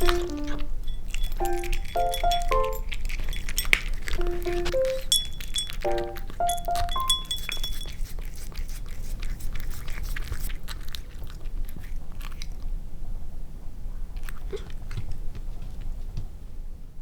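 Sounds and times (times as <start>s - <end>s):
cat crunching food: 0.0s - 16.0s.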